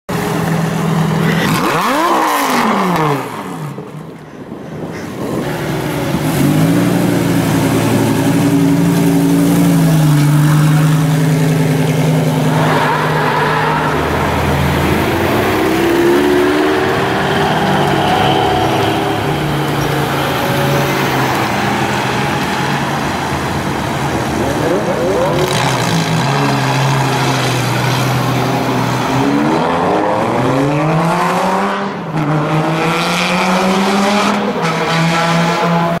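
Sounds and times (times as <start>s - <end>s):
sports car engine accelerating: 6.0s - 36.0s.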